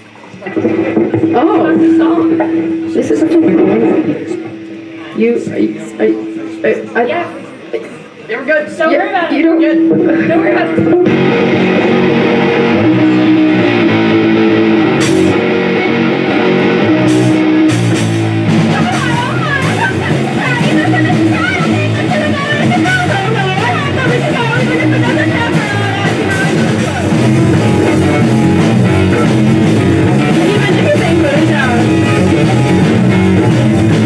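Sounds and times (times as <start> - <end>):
live rock band playing: 0.0 - 34.0
wavering lead guitar line: 0.0 - 34.0.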